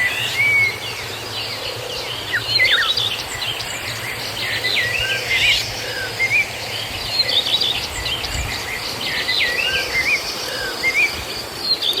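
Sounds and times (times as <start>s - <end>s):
birds chirping and calling: 0.0s - 12.0s
steady background hiss: 0.0s - 12.0s.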